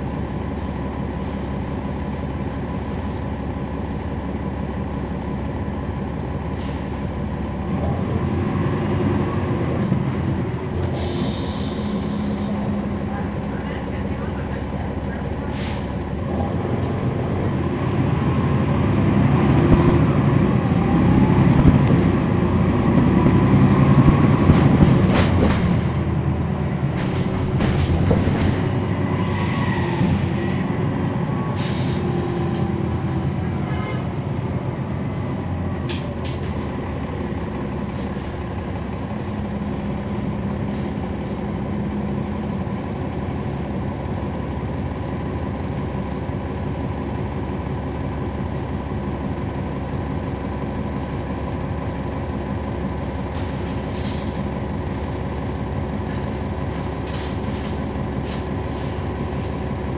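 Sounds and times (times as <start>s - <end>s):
bus diesel engine accelerating: 0.0s - 59.9s.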